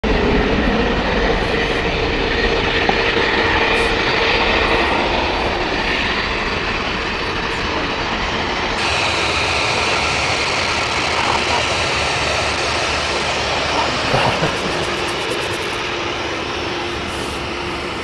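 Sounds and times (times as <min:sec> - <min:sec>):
jet engines taxiing: 0:00.0 - 0:18.0.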